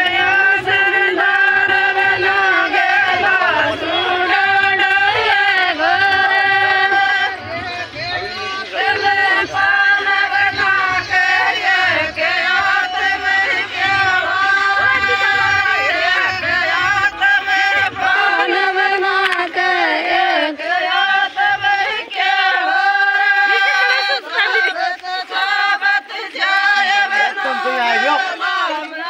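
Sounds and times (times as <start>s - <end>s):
women singing folk song: 0.0s - 29.0s.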